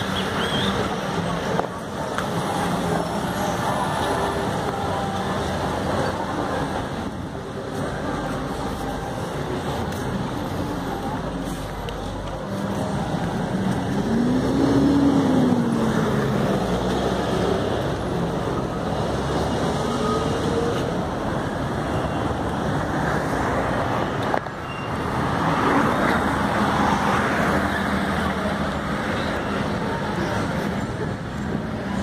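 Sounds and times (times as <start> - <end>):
car engines passing: 0.0 - 32.0.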